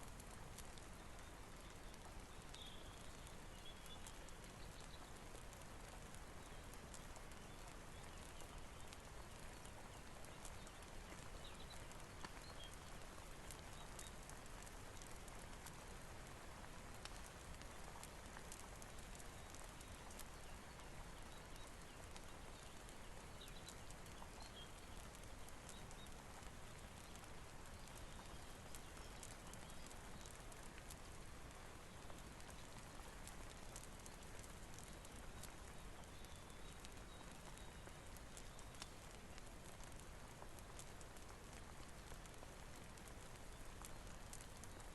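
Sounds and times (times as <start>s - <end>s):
sharp ticks and crackles: 0.0s - 44.9s
soft steady rain: 0.0s - 44.9s.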